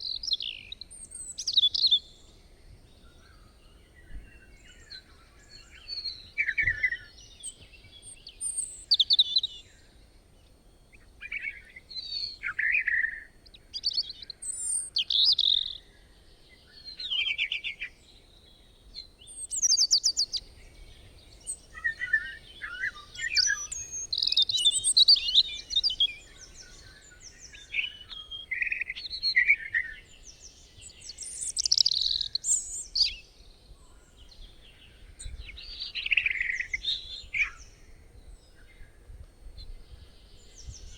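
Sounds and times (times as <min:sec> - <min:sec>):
birds singing: 0:00.0 - 0:40.9
faint background hiss: 0:00.0 - 0:40.9.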